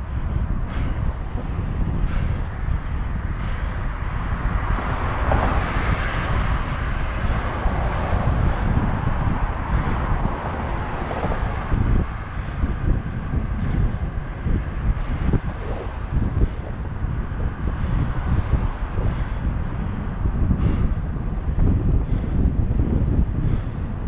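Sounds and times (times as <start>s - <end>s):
passing vehicle: 0.0s - 24.0s
wind rushing over microphone: 0.0s - 24.0s.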